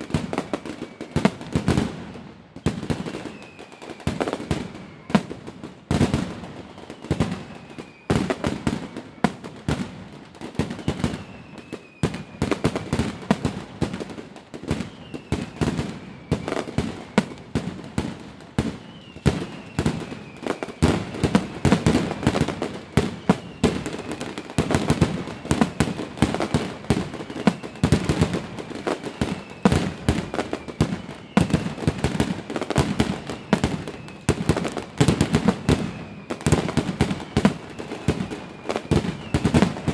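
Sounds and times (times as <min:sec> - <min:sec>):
falling firework whistles: 0:00.0 - 0:39.9
fireworks bangs and crackles: 0:00.0 - 0:39.9.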